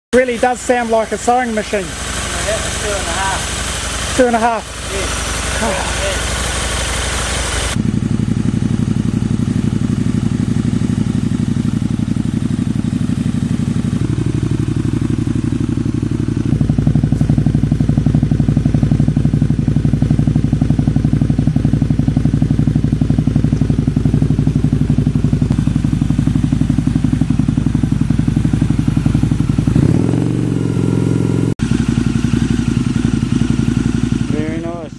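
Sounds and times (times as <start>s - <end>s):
motorcycle engine idling: 0.2s - 34.9s
motorcycle engine revving: 0.2s - 34.9s.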